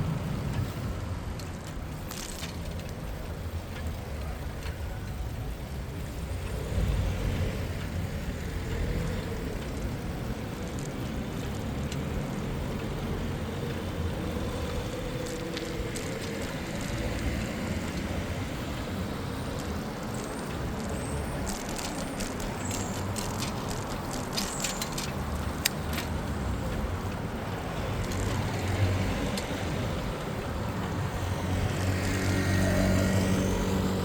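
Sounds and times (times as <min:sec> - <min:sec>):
city road traffic: 0:00.0 - 0:34.0.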